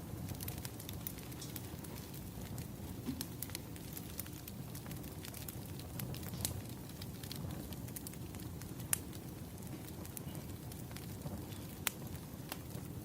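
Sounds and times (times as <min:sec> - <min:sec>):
burning logs rumbling: 0:00.0 - 0:13.0
wood fire popping and snapping: 0:00.0 - 0:13.0.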